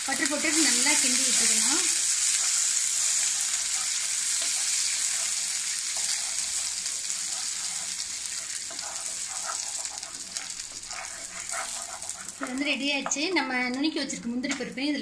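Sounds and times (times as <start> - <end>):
butter sizzling in caramel: 0.0 - 14.6
spatula stirring in pan: 0.1 - 13.6.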